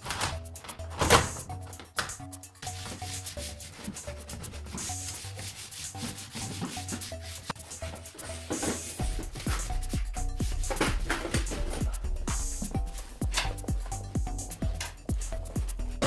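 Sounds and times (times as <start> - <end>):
music with pulsing bass: 0.0 - 16.0
rubbing scraping noise: 0.0 - 16.0.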